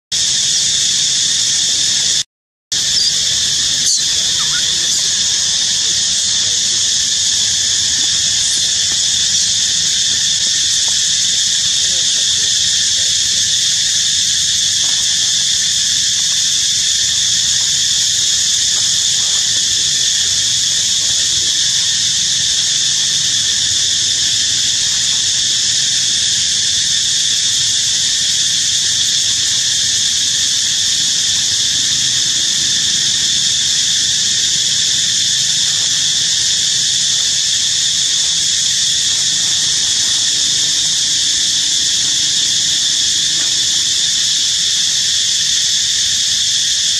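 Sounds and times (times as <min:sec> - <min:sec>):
insects buzzing in chorus: 0:00.2 - 0:46.9.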